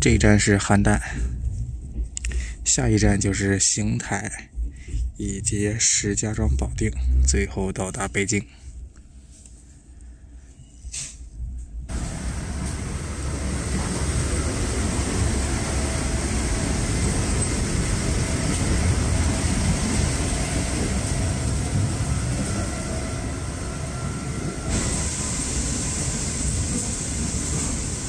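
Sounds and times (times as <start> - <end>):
moving train rumble: 0.0 - 28.0.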